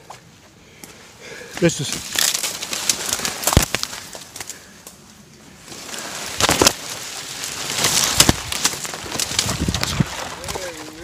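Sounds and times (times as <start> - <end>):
footsteps through undergrowth: 0.0 - 11.0
twigs snapping: 1.6 - 11.0.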